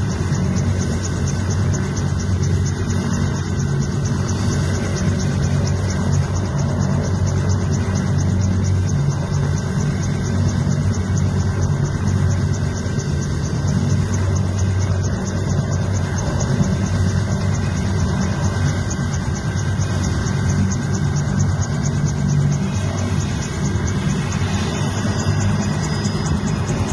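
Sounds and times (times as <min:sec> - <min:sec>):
helicopter engine and rotors droning: 0:00.0 - 0:26.9.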